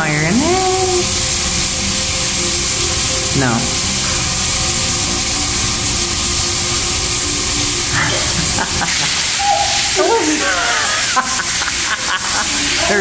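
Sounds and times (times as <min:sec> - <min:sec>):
shower water spraying on tiles: 0:00.0 - 0:13.0.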